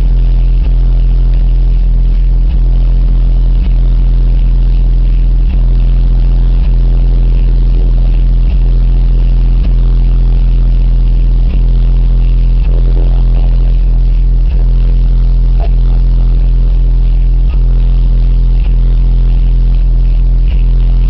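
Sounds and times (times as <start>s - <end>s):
distorted deep bass note: 0.0s - 21.0s.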